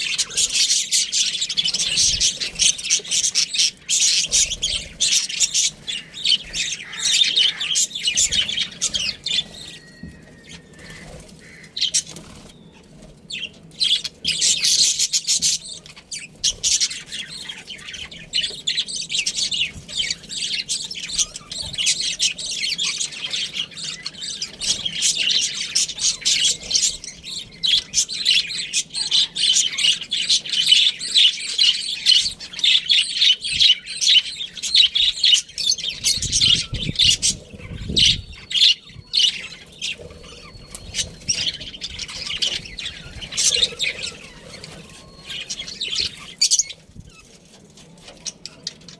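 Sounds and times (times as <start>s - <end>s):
budgerigars chirping and warbling: 0.0s - 48.9s.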